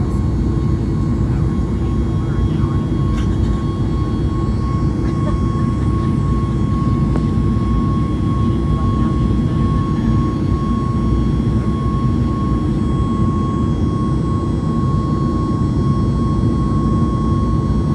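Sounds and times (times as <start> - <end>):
jet engine high whine: 0.0 - 17.9
jet engines rumbling: 0.0 - 17.9.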